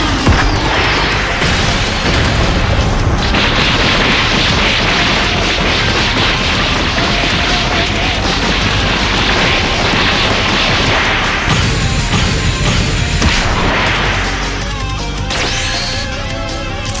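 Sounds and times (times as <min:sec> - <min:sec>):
explosion-like blast rumble: 0:00.0 - 0:14.6.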